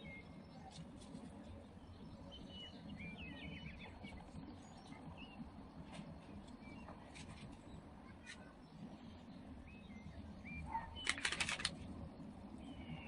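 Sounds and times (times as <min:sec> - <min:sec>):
low background rumble: 0:00.0 - 0:13.0
faint bird chirps: 0:01.5 - 0:11.6, 0:12.6 - 0:13.0.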